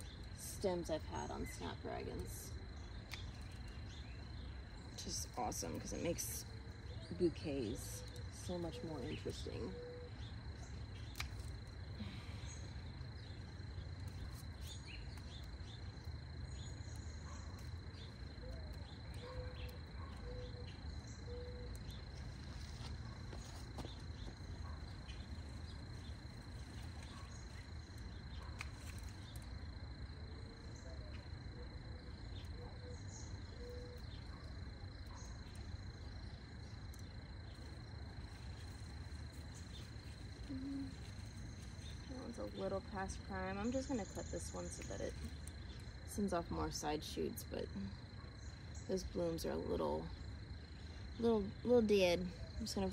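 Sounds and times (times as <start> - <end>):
high-pitched insect trill: 0.0 - 52.9
low outdoor rumble: 0.0 - 52.9.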